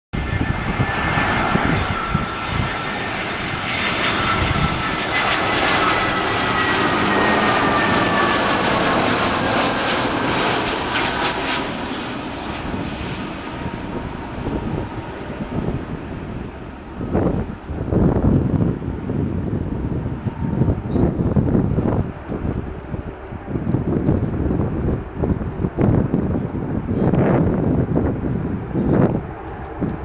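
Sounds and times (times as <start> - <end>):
wind gusts on microphone: 0.1 - 30.0
jet airliner flying past: 0.2 - 30.0.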